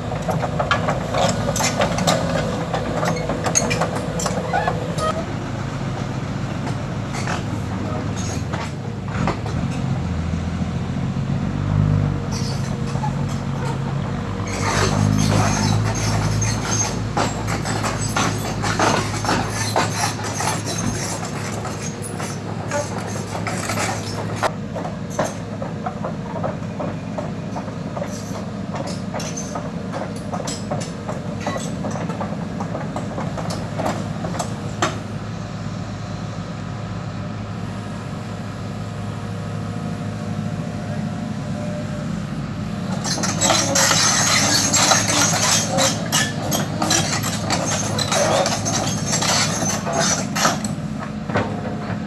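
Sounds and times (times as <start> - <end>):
metal tracks clanking: 0.0 - 10.3, 11.2 - 35.4, 40.9 - 52.0
excavator diesel engine hum: 0.0 - 52.0.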